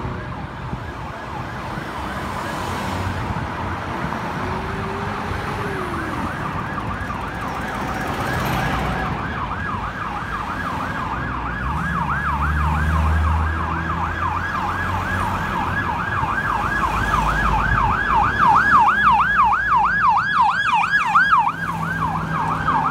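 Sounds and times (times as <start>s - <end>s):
emergency siren yelping: 0.0s - 22.9s
rumble of passing vehicles: 0.0s - 22.9s
higher siren: 3.9s - 22.9s.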